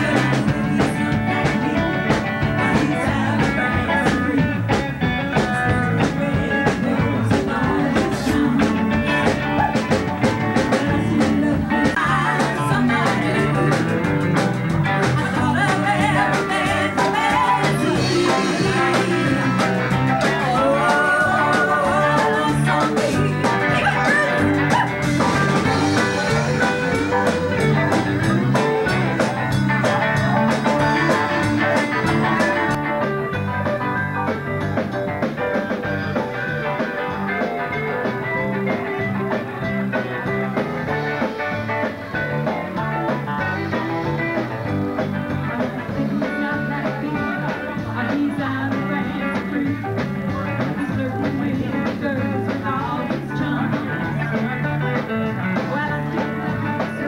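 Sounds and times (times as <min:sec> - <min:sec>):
person singing: 0:00.0 - 0:32.8, 0:43.2 - 0:57.0
live band playing: 0:00.0 - 0:57.0.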